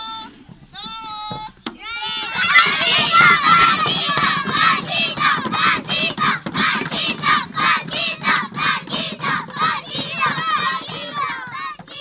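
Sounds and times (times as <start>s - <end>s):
children chanting rhythmically: 1.8s - 12.0s
children shouting: 1.8s - 12.0s.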